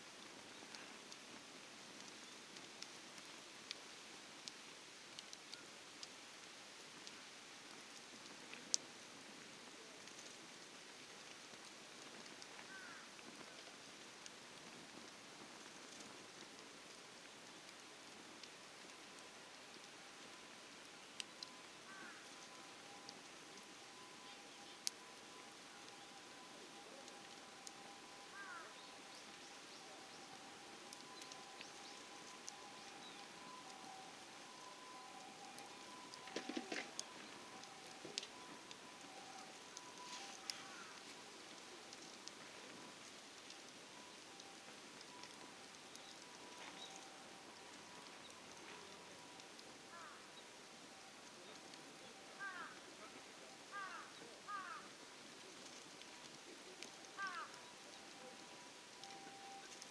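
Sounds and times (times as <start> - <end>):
campfire crackles: 0.0 - 59.9
low steady hiss: 0.0 - 59.9.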